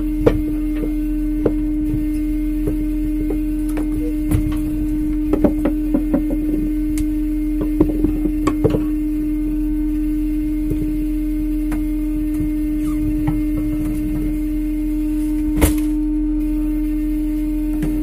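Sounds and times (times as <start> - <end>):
boat machinery humming: 0.0 - 18.0.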